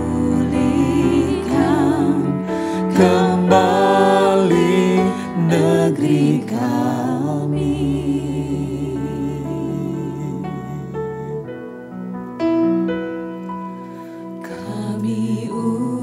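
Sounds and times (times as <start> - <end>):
person singing with vibrato: 0.0 - 11.7, 14.4 - 16.0
sustained instrumental backing: 0.0 - 15.3.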